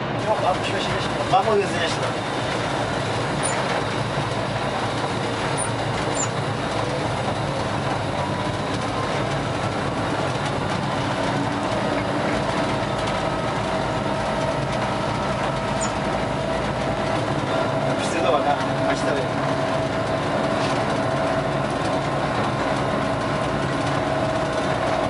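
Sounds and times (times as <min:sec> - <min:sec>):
locomotive engine running: 0:00.0 - 0:25.0
wheels rolling on rails: 0:00.0 - 0:25.0.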